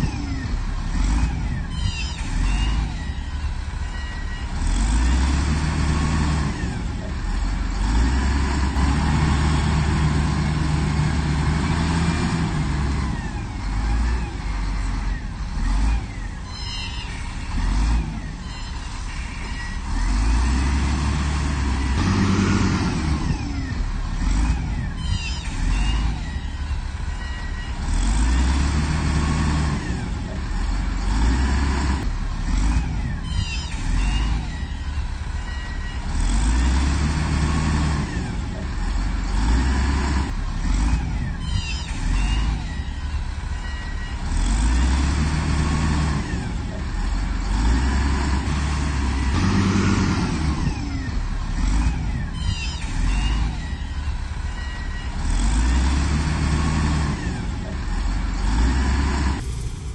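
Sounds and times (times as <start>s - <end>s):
diesel earthmoving machine engine revving: 0.0s - 59.9s.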